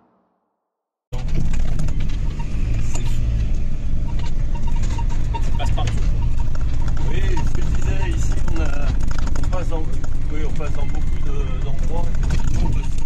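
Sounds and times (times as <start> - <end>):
cab knocks and rattles: 1.1 - 13.0
diesel engine drone: 1.1 - 13.0.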